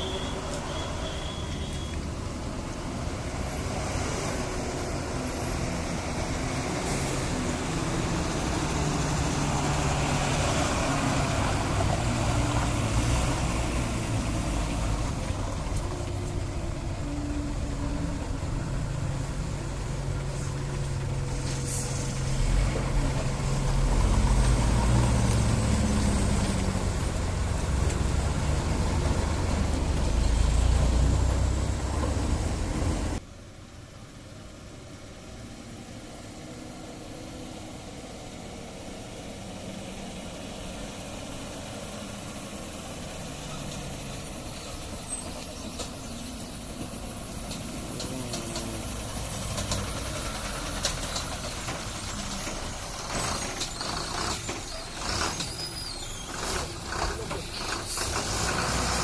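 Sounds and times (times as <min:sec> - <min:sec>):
heavy lorry engine running: 0:00.0 - 0:33.2, 0:34.8 - 0:59.0.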